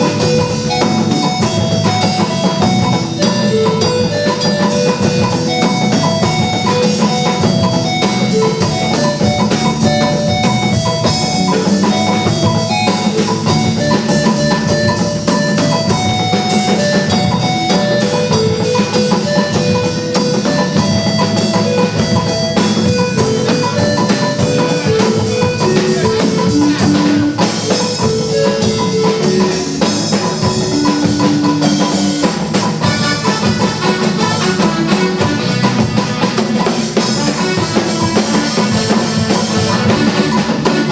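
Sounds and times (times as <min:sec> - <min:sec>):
music with drums and guitar: 0:00.0 - 0:40.9.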